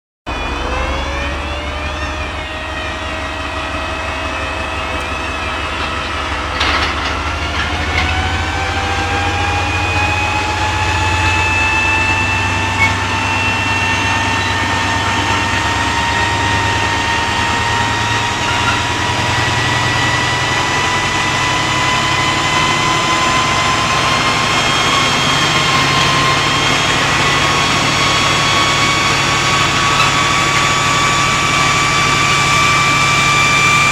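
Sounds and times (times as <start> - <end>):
locomotive diesel engine drone: 0.3 - 33.9
whines rising in pitch: 0.3 - 33.9.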